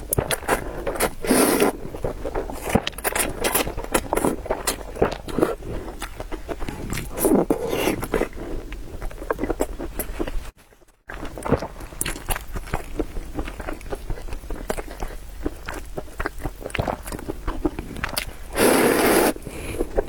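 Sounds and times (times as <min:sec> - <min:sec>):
person chewing and slurping noodles: 0:00.0 - 0:20.0.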